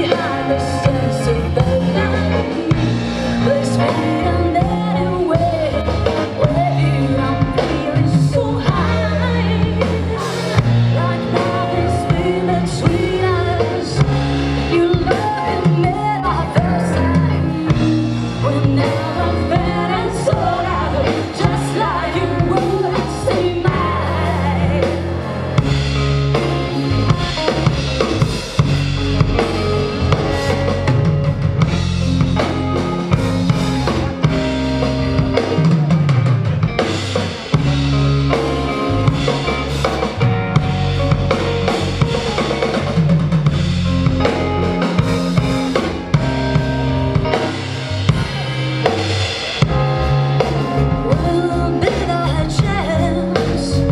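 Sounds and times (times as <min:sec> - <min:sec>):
bass line: 0:00.0 - 0:53.9
rock band playing live: 0:00.0 - 0:53.9.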